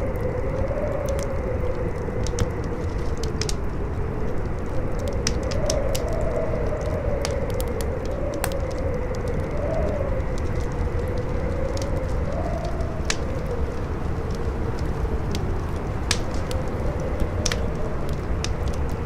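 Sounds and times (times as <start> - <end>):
howling wind: 0.0 - 19.0
campfire crackling and popping: 0.1 - 19.0.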